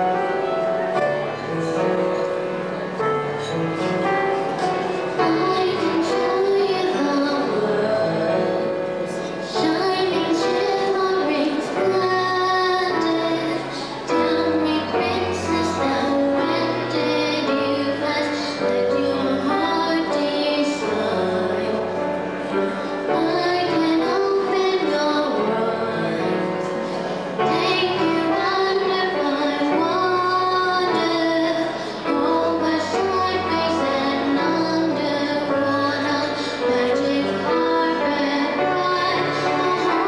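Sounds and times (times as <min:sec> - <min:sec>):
instrumental accompaniment: 0:00.0 - 0:40.0
girl singing into microphone: 0:03.2 - 0:40.0.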